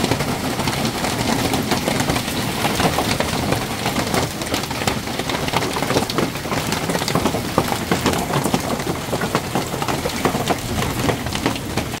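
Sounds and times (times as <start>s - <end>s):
hailstones hitting paving and plants: 0.0s - 12.0s.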